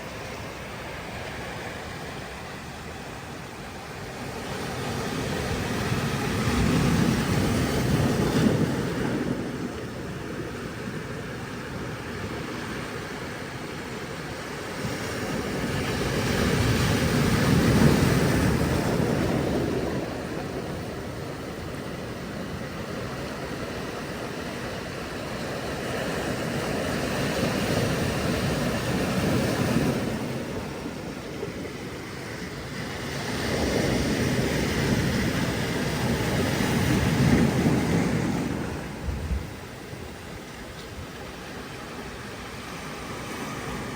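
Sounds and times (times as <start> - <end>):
waves breaking: 0.0 - 43.9.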